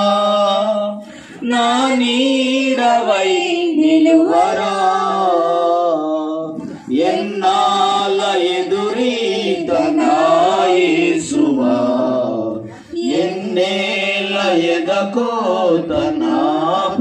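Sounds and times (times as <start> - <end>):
voices singing a hymn: 0.0 - 17.0.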